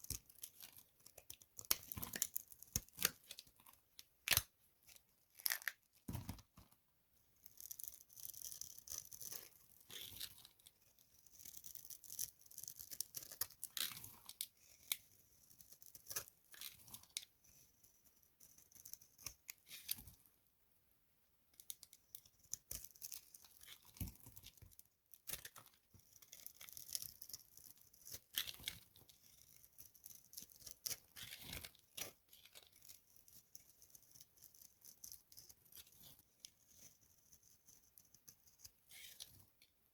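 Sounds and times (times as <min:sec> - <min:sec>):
dry soap crackling and crunching: 0:00.0 - 0:06.8, 0:07.4 - 0:20.2, 0:21.5 - 0:39.8.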